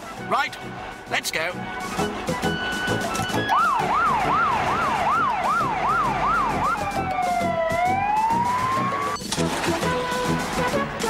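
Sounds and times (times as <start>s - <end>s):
fire engine siren: 1.7s - 11.0s.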